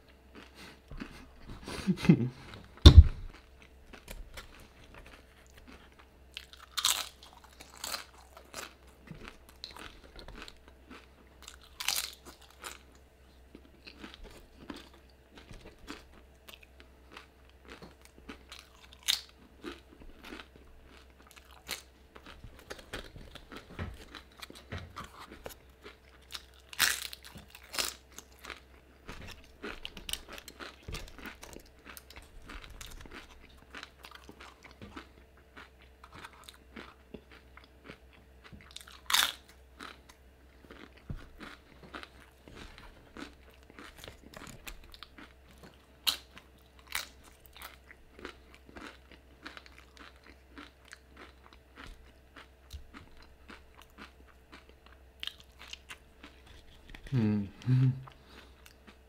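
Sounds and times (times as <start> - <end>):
chewing crunchy chips: 0.0 - 59.0.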